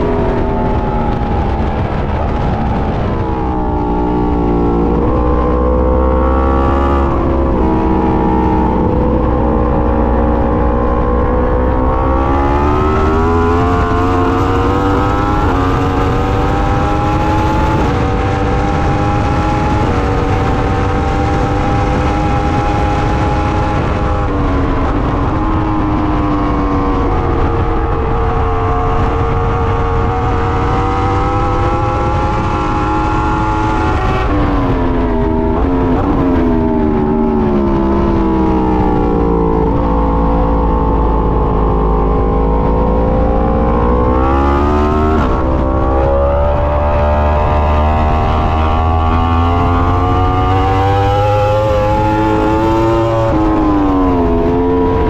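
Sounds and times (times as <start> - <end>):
motorcycle engine revving: 0.0 - 55.0
rushing wind noise: 0.0 - 55.0.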